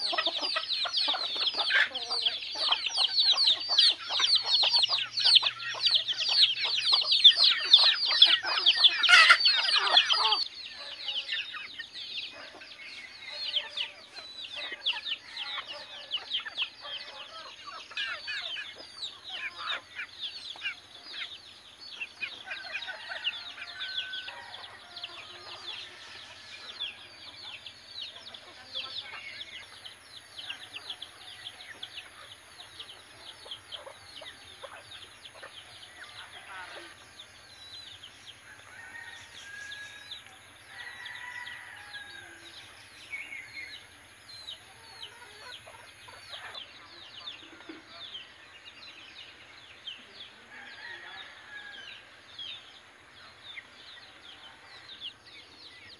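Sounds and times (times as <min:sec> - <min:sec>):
chickens chirping and clucking: 0:00.0 - 0:55.9.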